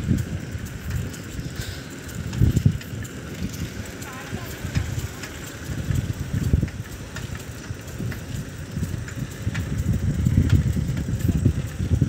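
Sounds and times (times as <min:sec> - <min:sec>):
bicycle ticks and rattles: 0:00.0 - 0:12.0
wind buffeting microphone: 0:00.0 - 0:12.0.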